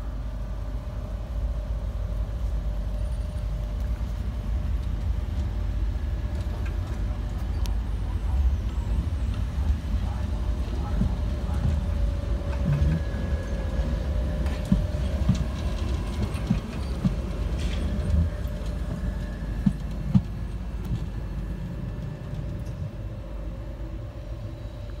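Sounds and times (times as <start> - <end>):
tram motor whine: 0.0 - 25.0
tram wheels rumbling on rail: 0.0 - 25.0.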